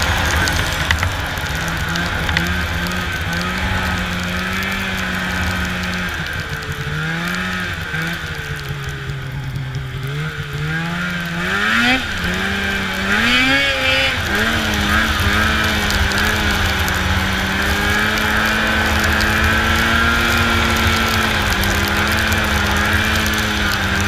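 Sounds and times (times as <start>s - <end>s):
snowmobile engine accelerating: 0.0s - 24.0s.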